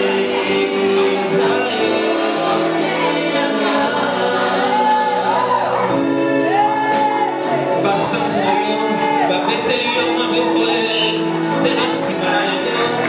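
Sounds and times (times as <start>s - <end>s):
group of singers: 0.0s - 13.0s
live band playing: 0.0s - 13.0s.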